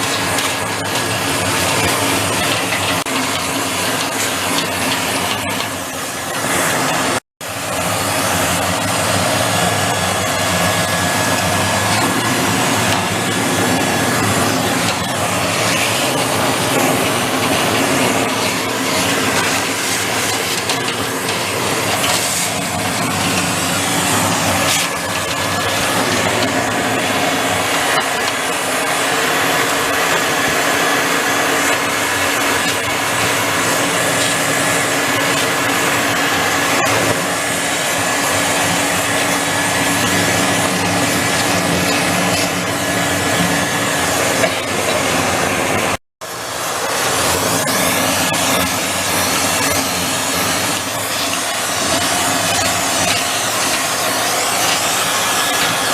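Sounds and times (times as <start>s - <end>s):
machine motor running: 0.0s - 55.9s.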